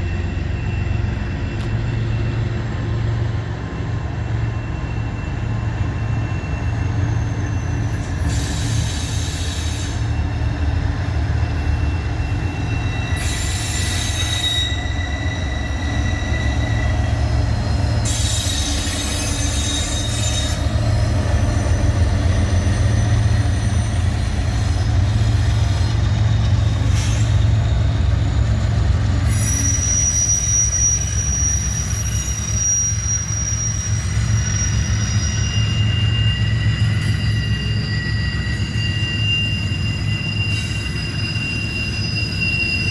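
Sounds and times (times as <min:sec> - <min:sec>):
wheels rumbling on rail: 0:00.0 - 0:42.9
high-pitched wheel squeal: 0:04.4 - 0:42.9.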